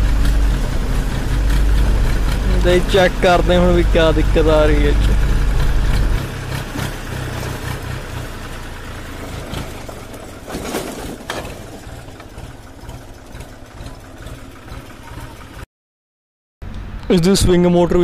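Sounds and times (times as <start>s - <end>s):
tractor engine idling: 0.0s - 15.7s.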